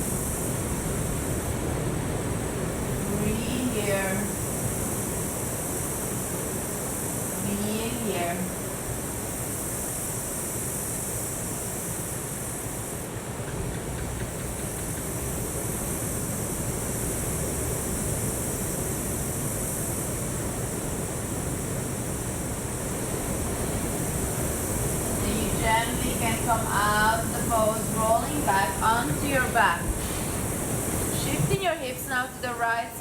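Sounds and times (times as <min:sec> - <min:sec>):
ocean waves washing onto shore: 0:00.0 - 0:33.0.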